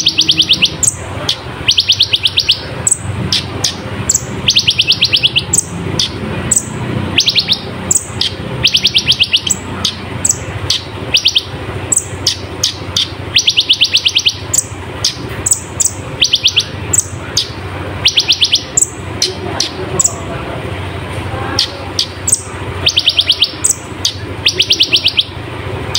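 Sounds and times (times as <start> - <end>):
sharp high bird chips: 0.0 - 20.2, 21.6 - 25.9
sunbird rapid high trills: 0.0 - 20.9, 21.5 - 25.9
steady low hum: 0.0 - 25.9.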